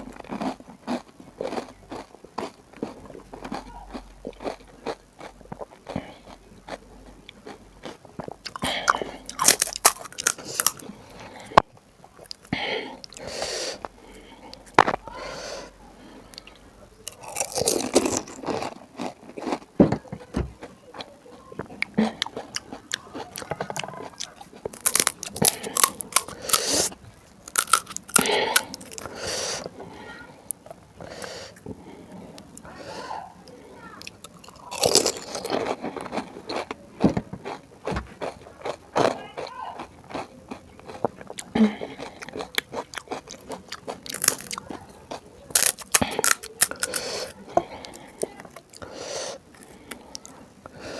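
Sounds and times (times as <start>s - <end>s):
crunching and chewing crisp shells: 0.0s - 50.9s.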